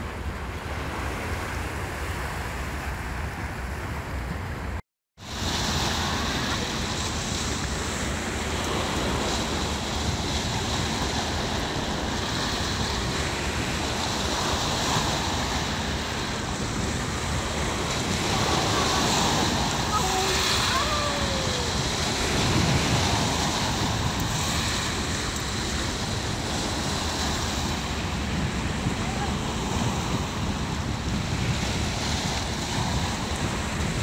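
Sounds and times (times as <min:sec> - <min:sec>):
wind on microphone: 0:00.0 - 0:34.0
waves washing onto rocky shore: 0:05.3 - 0:34.0.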